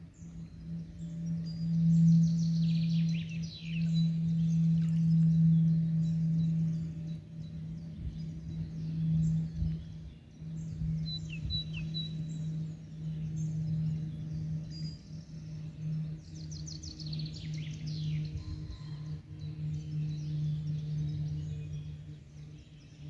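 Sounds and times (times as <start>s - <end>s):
songbirds chirping: 0.0s - 23.0s
steady low hum: 0.0s - 23.0s.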